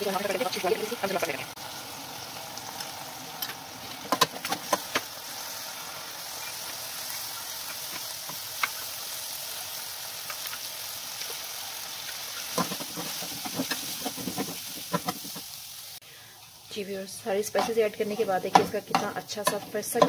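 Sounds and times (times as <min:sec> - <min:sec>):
garlic sizzling in oil: 0:00.0 - 0:20.0.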